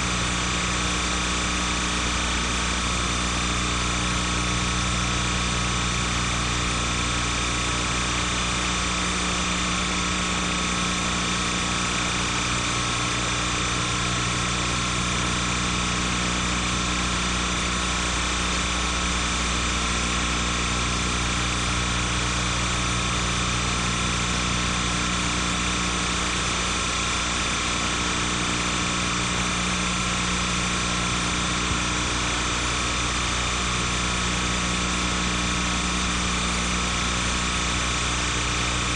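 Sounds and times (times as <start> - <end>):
machine-like hum and hiss: 0.0 - 38.9.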